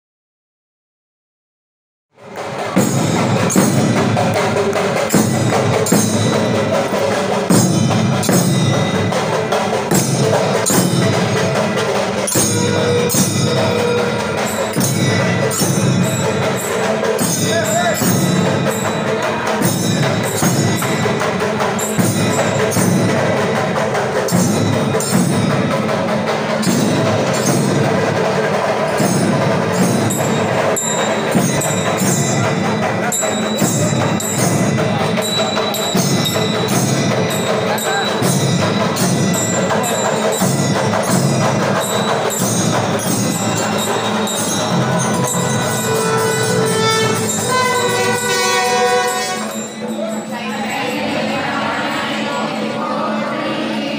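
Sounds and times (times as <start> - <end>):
drums: 2.1 - 52.6
metal percussion strikes: 2.2 - 53.0.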